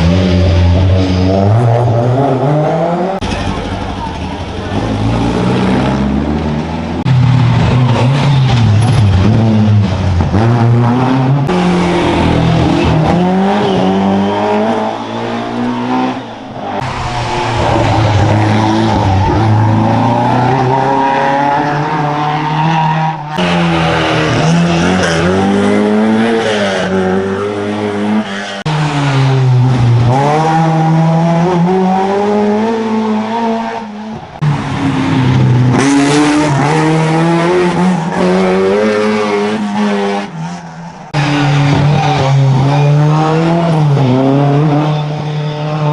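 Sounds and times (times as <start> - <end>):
rally car engine revving: 0.0 - 45.9.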